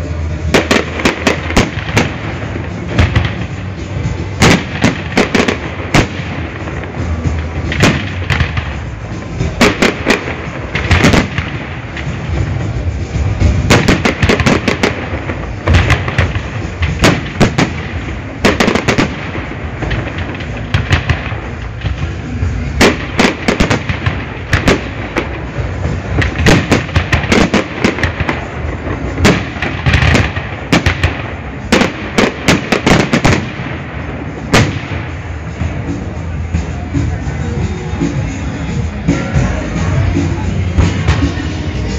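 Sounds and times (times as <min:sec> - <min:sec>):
fireworks bangs: 0:00.0 - 0:41.9
fireworks rumble and crackle: 0:00.0 - 0:41.9.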